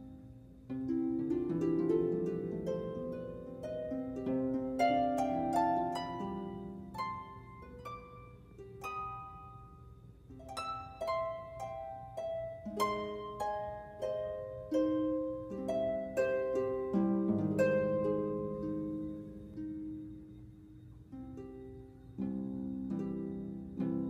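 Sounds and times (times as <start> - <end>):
plucked harp-like melody: 0.0 - 24.0.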